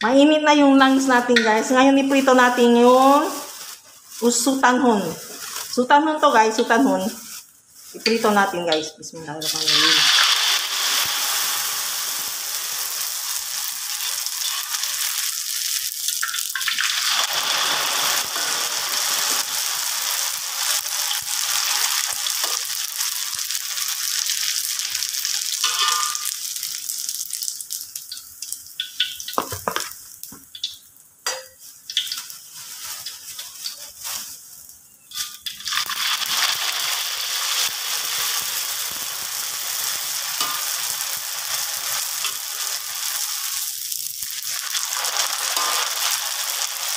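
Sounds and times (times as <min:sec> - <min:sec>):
noodles deep-frying in hot oil: 0:00.0 - 0:46.9.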